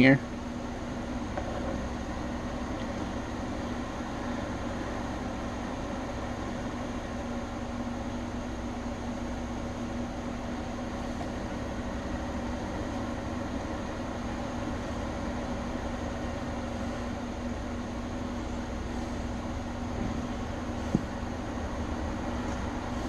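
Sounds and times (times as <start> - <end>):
background hum: 0.0 - 23.0
constant hiss: 0.0 - 23.0.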